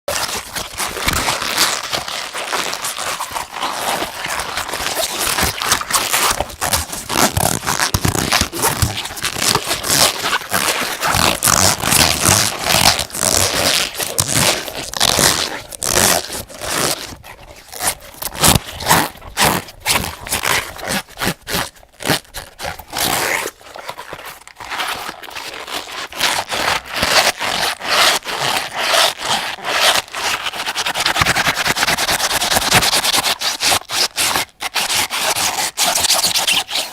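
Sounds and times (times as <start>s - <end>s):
rubber hot water bottle squeaks: 0.1s - 36.9s.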